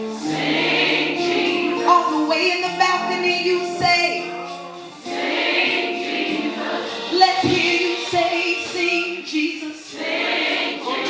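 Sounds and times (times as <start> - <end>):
choir singing worship song: 0.0 - 11.0.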